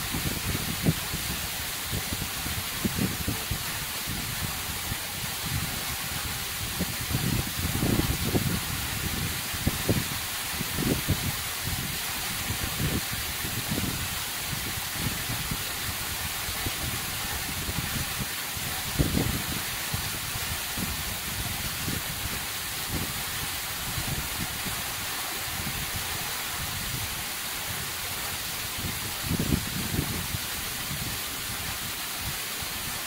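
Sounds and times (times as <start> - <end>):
waterfall splashing: 0.0 - 33.0.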